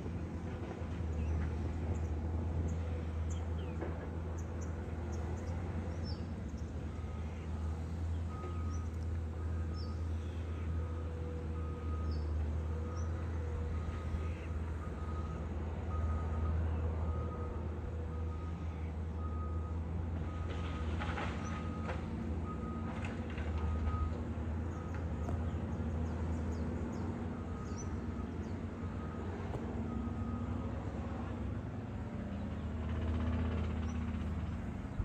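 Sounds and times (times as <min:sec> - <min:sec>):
diesel machinery droning: 0:00.0 - 0:35.0.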